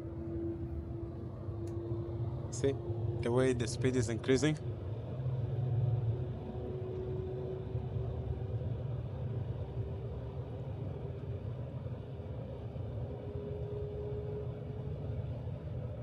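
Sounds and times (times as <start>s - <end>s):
faint whine: 0.0s - 16.0s
train cabin low rumble: 0.0s - 16.0s.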